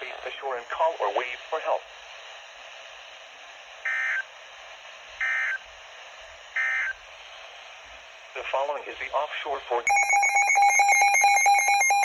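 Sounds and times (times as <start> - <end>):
steady radio hiss: 0.0 - 9.9.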